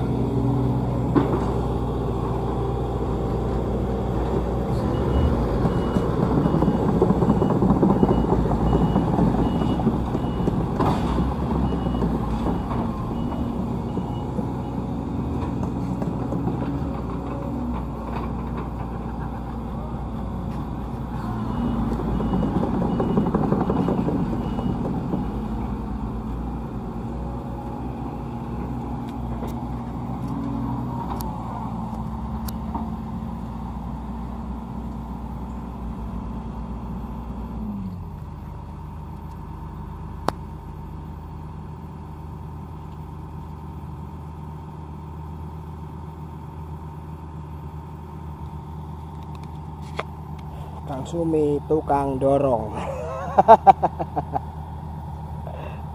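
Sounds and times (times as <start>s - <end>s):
diesel engines running hard: 0.0s - 55.9s.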